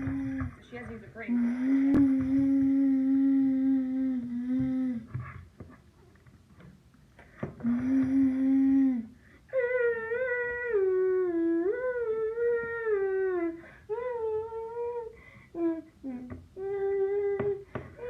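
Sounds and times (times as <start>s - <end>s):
child humming: 0.0s - 5.4s, 7.5s - 18.0s.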